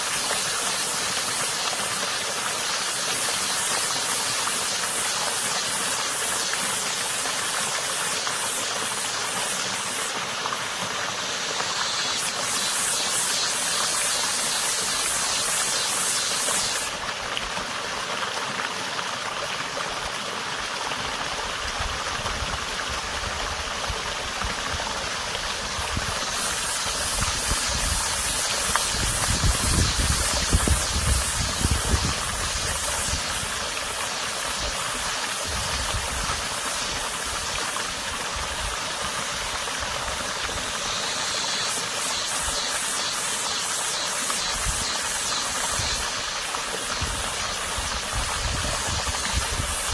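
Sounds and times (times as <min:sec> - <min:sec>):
cicada singing: 0:00.0 - 0:17.1, 0:24.5 - 0:49.9
creek water running: 0:00.0 - 0:49.9.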